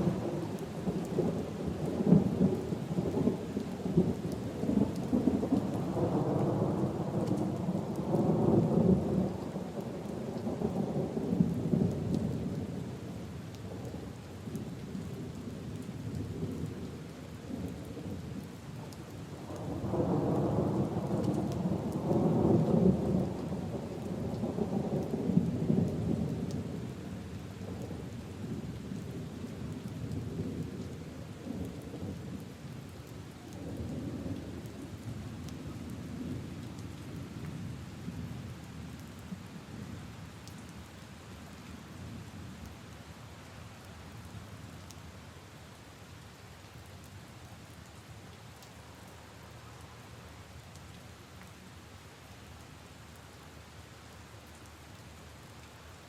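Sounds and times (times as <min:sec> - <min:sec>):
rain falling on puddles and leaves: 0:00.0 - 0:56.0.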